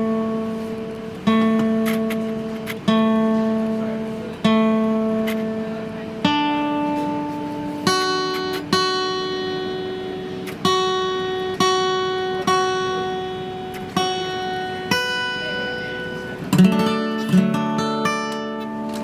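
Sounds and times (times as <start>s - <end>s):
acoustic guitar plucked notes: 0.0s - 19.0s
strummed guitar chord: 0.0s - 19.0s.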